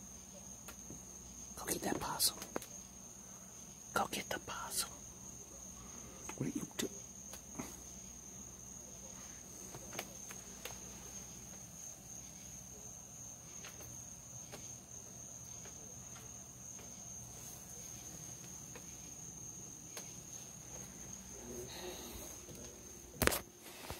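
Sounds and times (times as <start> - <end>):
night insects trilling: 0.0 - 23.9.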